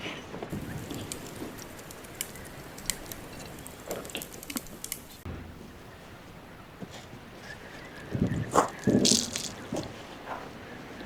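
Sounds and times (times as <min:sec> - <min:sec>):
crunchy chewing: 0:00.5 - 0:05.3, 0:06.8 - 0:11.0.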